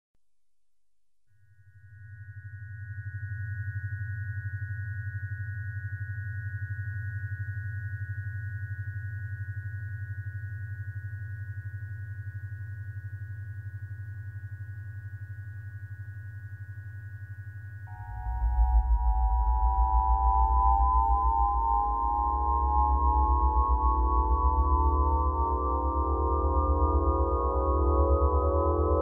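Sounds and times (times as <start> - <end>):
pulsing electric hum: 3.7 - 29.0.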